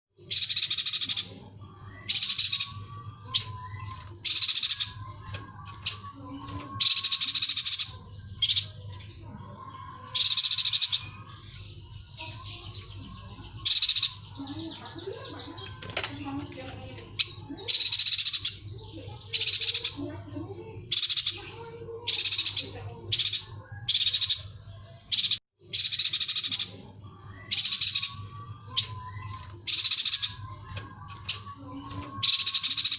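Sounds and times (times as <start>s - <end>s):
bird buzzy trills: 0.2s - 32.9s.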